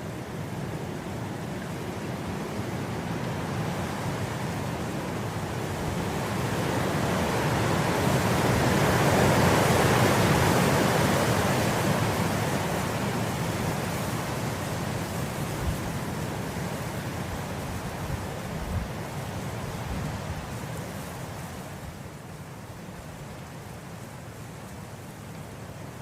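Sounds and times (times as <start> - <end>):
wind blowing through grass: 0.0 - 26.0.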